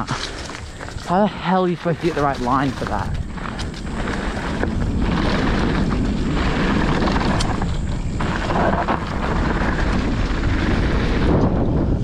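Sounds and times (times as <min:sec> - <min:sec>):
bike clicks: 0:00.0 - 0:12.0
bike tyre noise: 0:00.0 - 0:12.0
wind buffeting microphone: 0:00.0 - 0:12.0.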